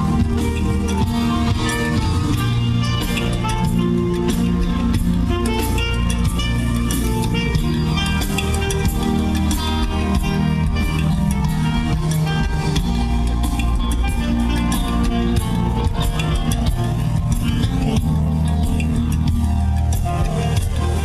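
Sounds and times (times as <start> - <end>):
percussion beat: 0.0 - 21.0
plucked guitar: 0.0 - 21.0.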